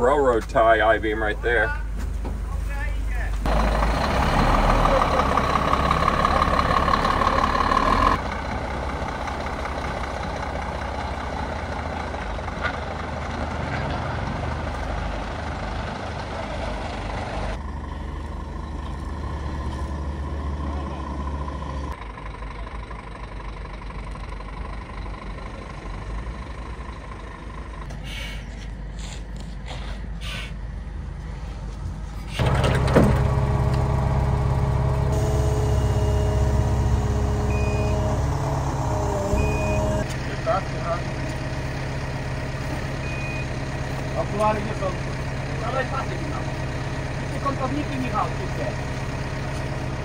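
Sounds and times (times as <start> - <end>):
diesel truck engine droning: 0.0 - 29.5, 30.6 - 50.0.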